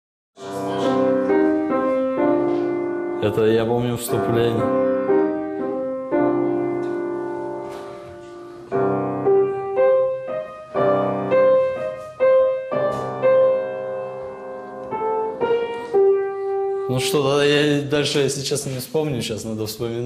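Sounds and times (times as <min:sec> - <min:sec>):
piano chords and notes: 0:00.4 - 0:20.0.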